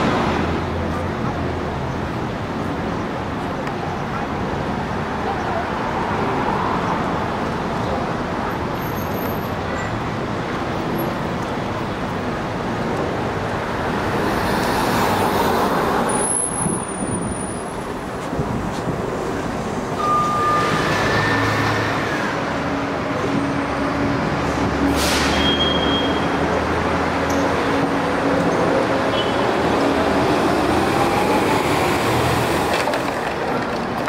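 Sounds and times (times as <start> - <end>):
bus engines running: 0.0 - 34.0
roadway traffic noise: 0.0 - 34.0.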